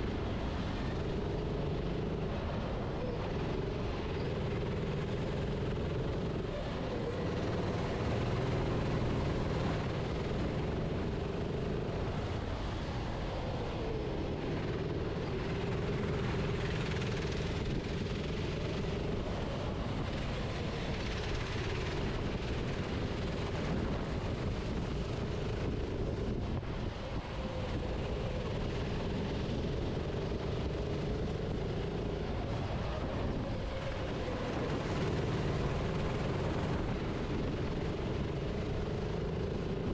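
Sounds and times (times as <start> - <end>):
kart engine racing: 0.0 - 39.9
steady rushing noise: 0.0 - 39.9.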